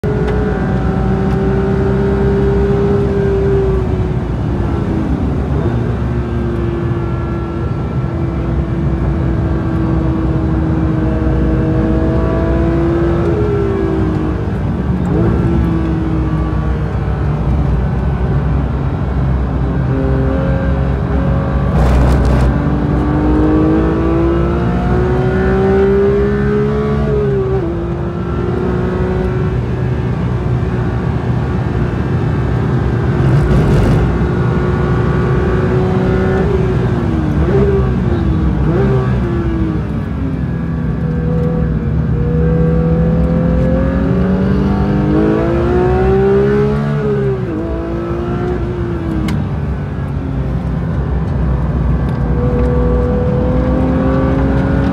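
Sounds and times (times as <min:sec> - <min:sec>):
car engine revving through gears: 0:00.0 - 0:04.0, 0:04.6 - 0:18.2, 0:19.6 - 0:40.2, 0:40.8 - 0:49.5, 0:50.1 - 0:54.9.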